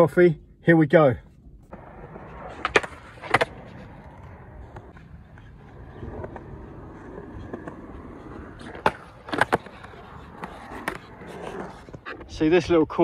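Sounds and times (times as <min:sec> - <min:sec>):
skateboard wheels rolling on concrete: 0:00.0 - 0:13.0
skateboard clacking on concrete: 0:01.7 - 0:12.3.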